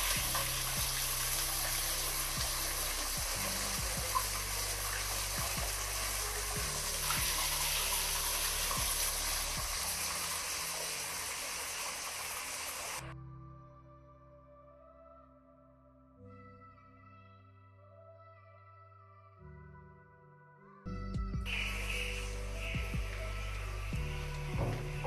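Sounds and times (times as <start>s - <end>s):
soft background music: 0.0s - 25.0s.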